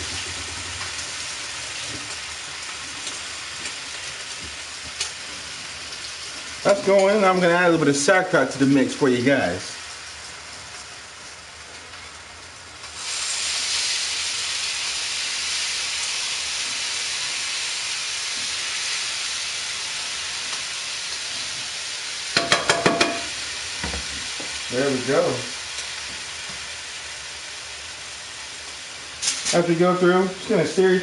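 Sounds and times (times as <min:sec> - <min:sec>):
meat sizzling in a skillet: 0:00.0 - 0:31.0.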